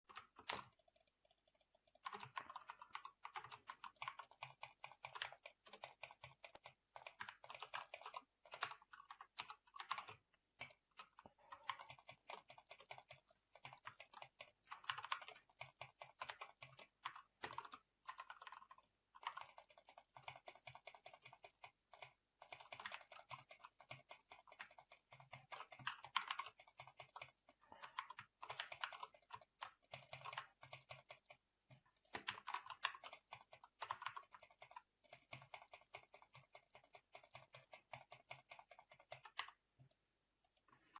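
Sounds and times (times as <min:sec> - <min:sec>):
keyboard typing: 0:00.1 - 0:40.9.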